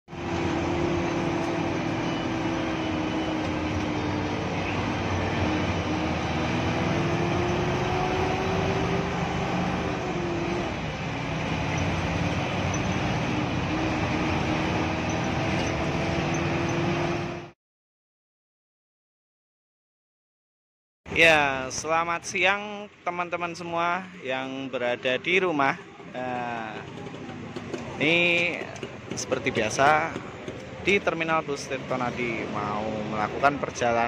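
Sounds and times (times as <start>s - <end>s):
bus engine drone with whine: 0.1s - 17.6s, 21.1s - 34.0s.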